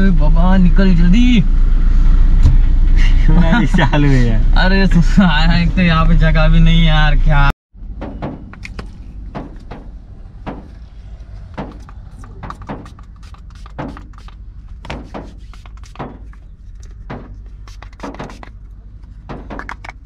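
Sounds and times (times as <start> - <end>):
car cabin hum: 2.3 - 20.0.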